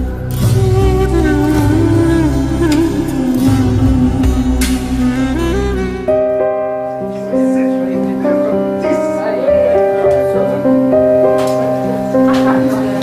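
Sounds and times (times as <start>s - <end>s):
slow background music: 0.0s - 13.0s.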